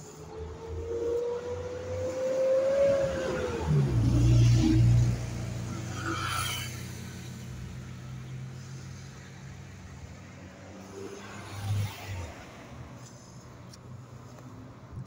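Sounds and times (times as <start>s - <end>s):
vehicle engine hum passing: 0.0s - 15.0s.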